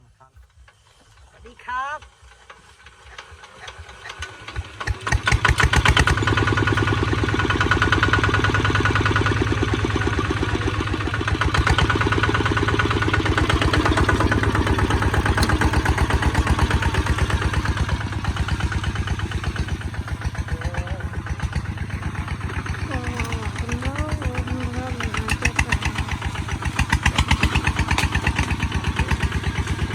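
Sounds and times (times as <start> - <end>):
diesel engine starting up: 0.4 - 29.9.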